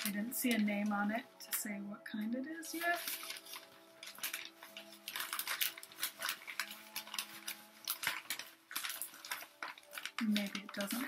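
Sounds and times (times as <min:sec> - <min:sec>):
plastic packaging crinkling: 0:00.0 - 0:01.7, 0:02.6 - 0:11.0.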